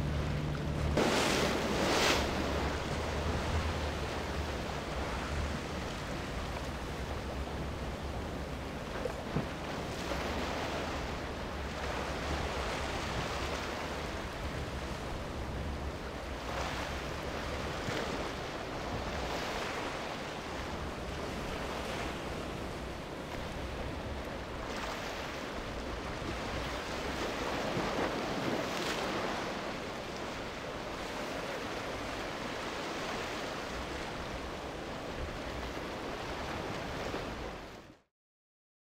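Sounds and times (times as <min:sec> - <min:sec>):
wind rumbling on microphone: 0:00.0 - 0:37.9
ocean waves breaking: 0:00.0 - 0:38.0.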